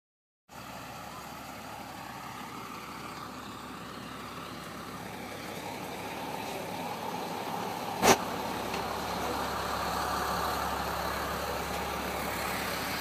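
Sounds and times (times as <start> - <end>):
bus engine idling: 0.5 - 13.0
street noise: 0.5 - 13.0.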